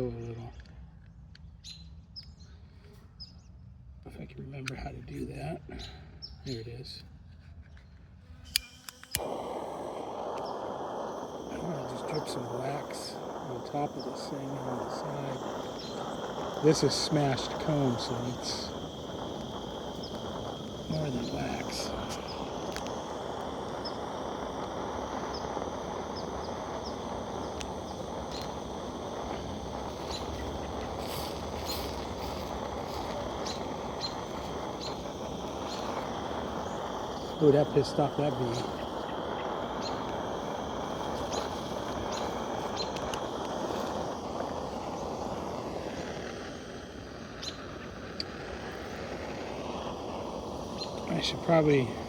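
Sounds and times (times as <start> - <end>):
gas torch flame hissing: 8.4 - 52.0.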